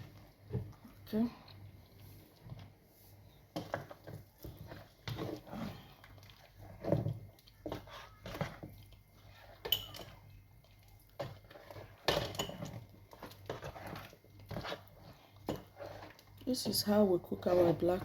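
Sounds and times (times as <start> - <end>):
spoon stirring and scraping pot: 0.0 - 18.0.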